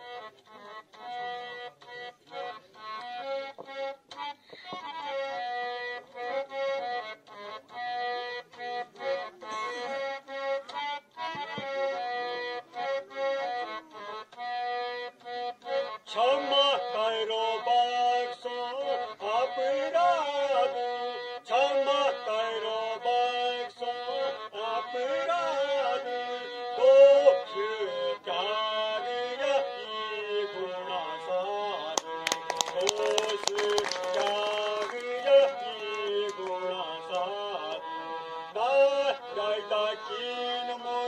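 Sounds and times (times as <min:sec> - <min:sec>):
harmonium playing chords: 0:00.0 - 0:41.0.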